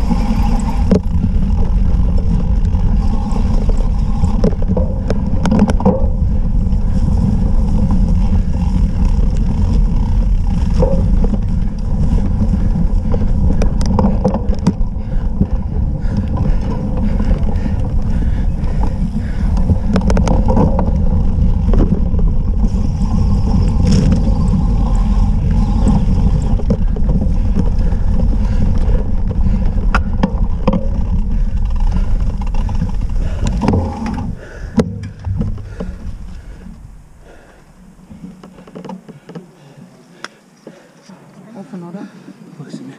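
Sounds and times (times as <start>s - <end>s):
wind buffeting: 0.0s - 39.6s
bike rattling clicks and knocks: 0.0s - 39.8s
bike tyre rumble: 0.0s - 42.9s.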